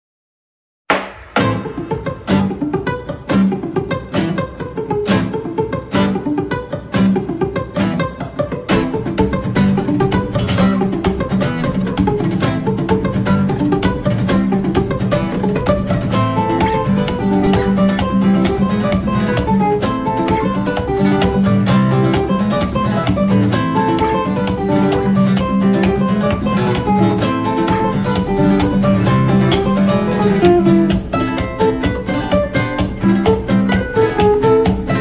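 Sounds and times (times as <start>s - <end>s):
fast flamenco acoustic guitar: 0.9s - 35.0s.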